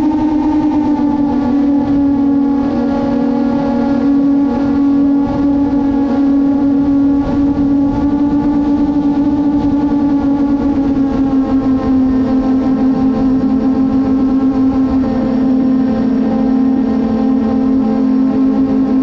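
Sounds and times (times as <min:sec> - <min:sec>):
drone motors and propellers whining: 0:00.0 - 0:19.0
wind noise on microphone: 0:00.0 - 0:19.0.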